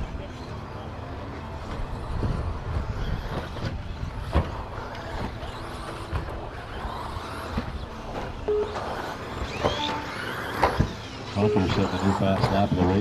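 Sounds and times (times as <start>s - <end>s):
radio-controlled truck motors: 0.0s - 13.0s.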